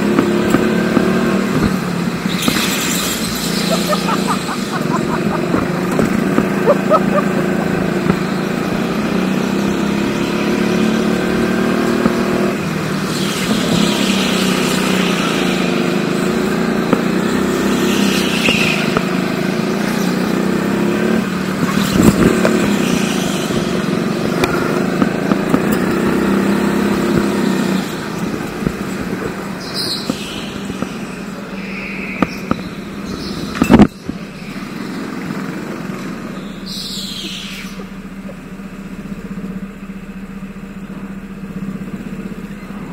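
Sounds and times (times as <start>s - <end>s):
go-kart engine running: 0.0s - 42.9s.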